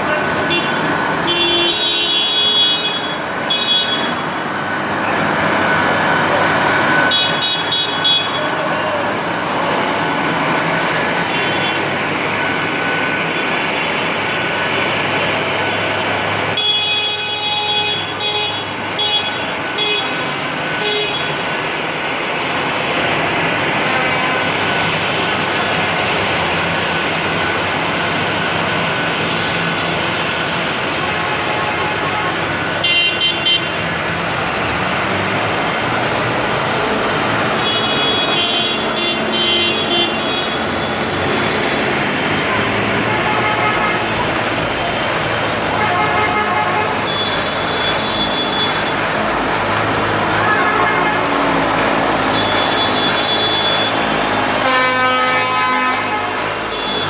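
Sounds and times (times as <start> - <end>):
horns tooting: 0.0 - 4.4, 5.0 - 21.7, 22.6 - 57.0
tractor engines running: 0.0 - 57.0.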